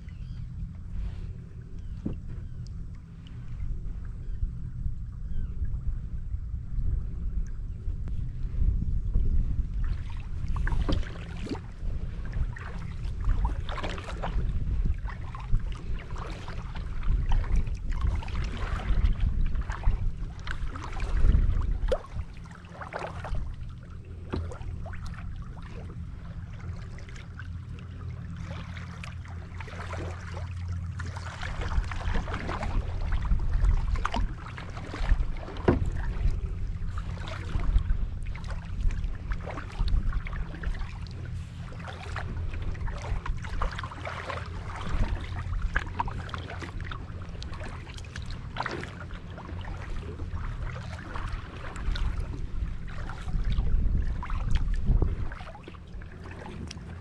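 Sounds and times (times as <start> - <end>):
steady low rumble: 0.0 - 57.0
paddle splashing in water: 9.8 - 57.0.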